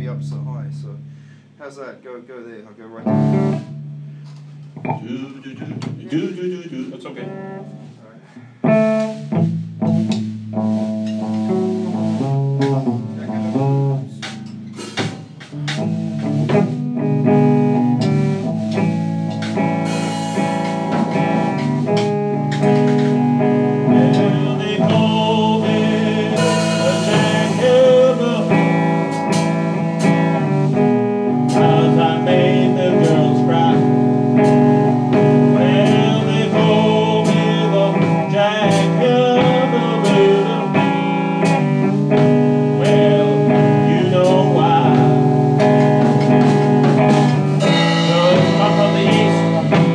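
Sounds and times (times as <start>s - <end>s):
slow blues guitar: 0.0s - 49.9s.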